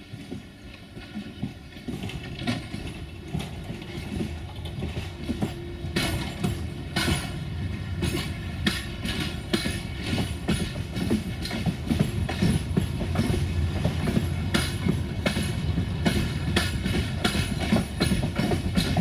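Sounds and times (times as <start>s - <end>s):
train coaches rumbling: 0.0s - 19.0s.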